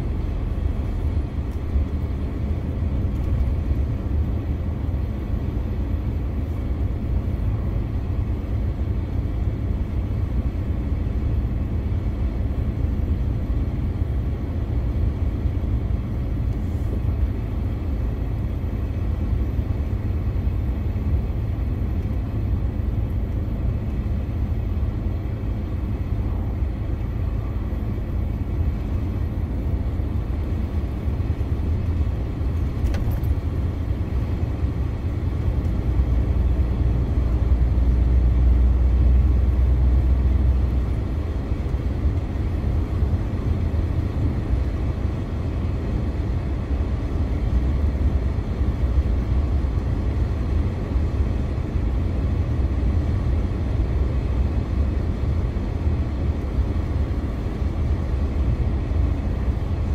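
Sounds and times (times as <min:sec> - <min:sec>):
truck diesel engine rumble: 0:00.0 - 0:59.9.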